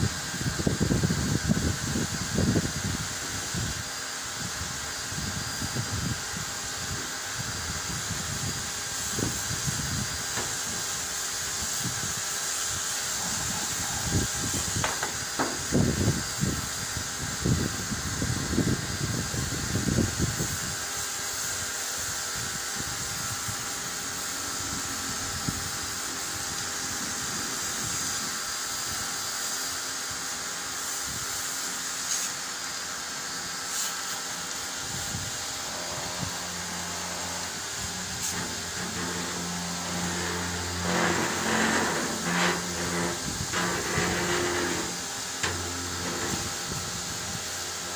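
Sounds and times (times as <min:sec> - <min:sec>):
small motor running with hiss: 0:00.0 - 0:47.9.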